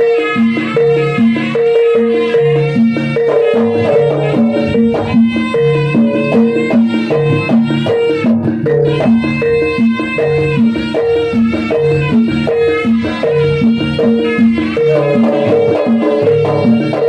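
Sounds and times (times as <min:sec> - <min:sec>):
drums and percussion: 0:00.0 - 0:17.0
held pitched notes: 0:00.0 - 0:17.0.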